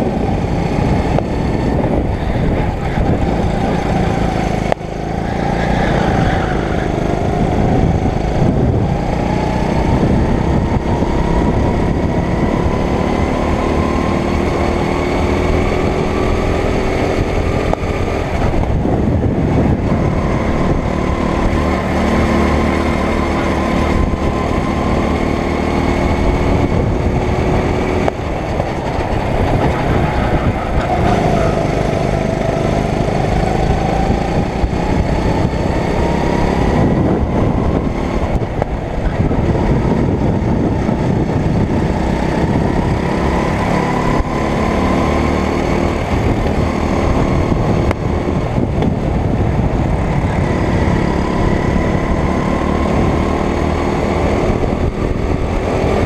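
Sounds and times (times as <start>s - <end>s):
kart engine running: 0.0s - 56.0s
wind rushing over microphone: 0.0s - 56.0s.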